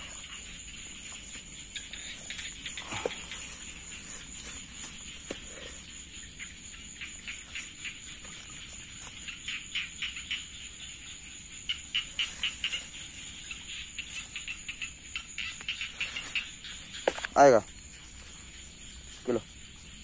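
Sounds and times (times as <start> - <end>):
high-pitched insect drone: 0.0 - 20.0
rapid clicking insect calls: 0.0 - 20.0.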